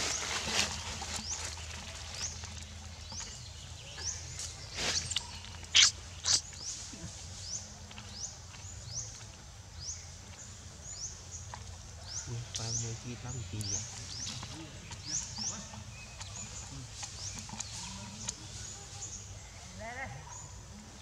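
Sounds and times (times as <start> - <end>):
monkey chewing fruit: 0.1 - 9.6, 10.2 - 19.6.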